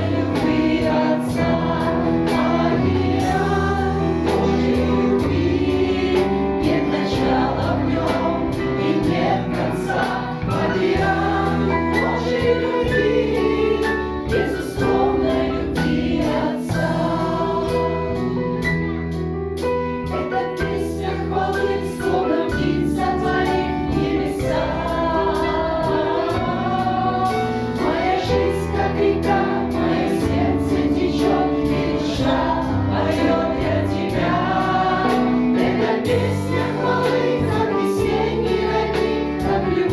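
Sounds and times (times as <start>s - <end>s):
choir singing: 0.0s - 18.6s, 20.2s - 39.9s.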